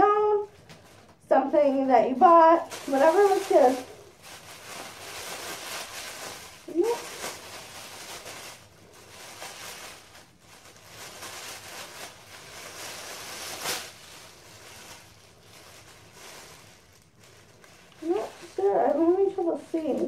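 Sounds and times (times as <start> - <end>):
tissue paper rustling and crinkling: 0.0 - 20.0.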